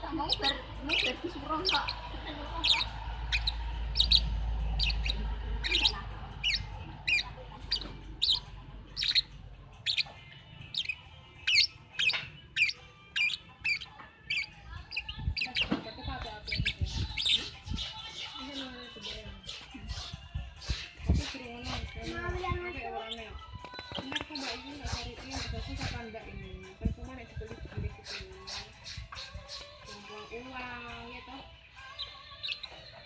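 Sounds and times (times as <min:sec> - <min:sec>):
small bird chirping: 0:00.1 - 0:22.0, 0:23.0 - 0:26.6, 0:31.8 - 0:33.0.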